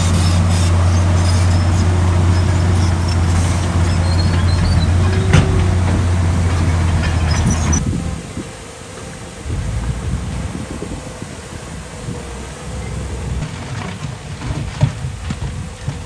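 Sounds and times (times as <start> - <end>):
heavy diesel machine engine hum: 0.0 - 16.0.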